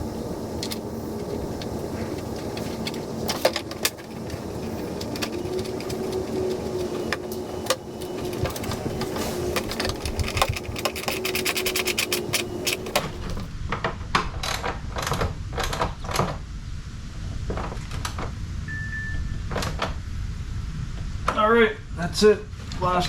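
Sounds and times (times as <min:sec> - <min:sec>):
steady hum: 0:00.0 - 0:14.2, 0:16.3 - 0:23.0.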